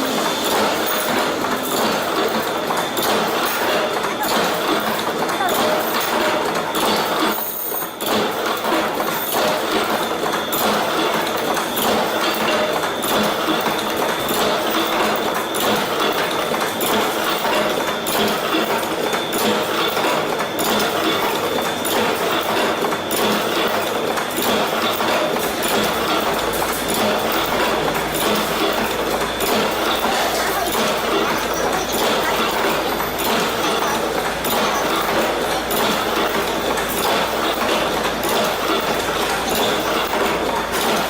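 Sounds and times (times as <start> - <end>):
industrial machinery clatter: 0.0 - 41.0.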